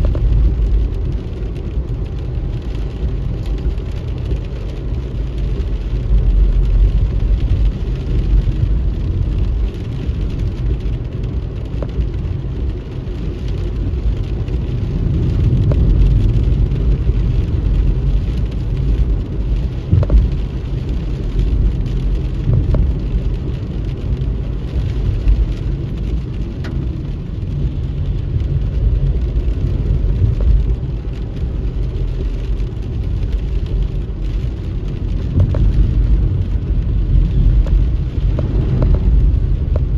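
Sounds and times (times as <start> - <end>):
engine and tyres on wet road: 0.0 - 39.9
rain on car: 0.0 - 39.9.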